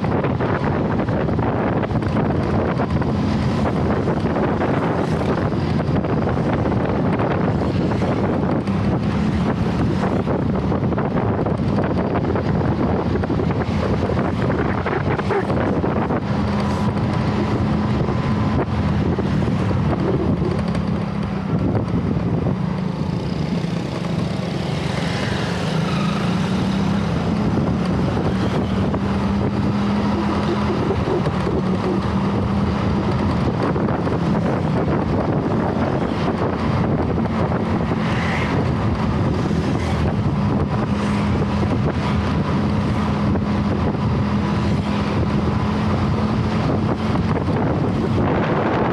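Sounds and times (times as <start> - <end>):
engine drone: 0.0 - 48.9
wind rushing over microphone: 0.0 - 48.9.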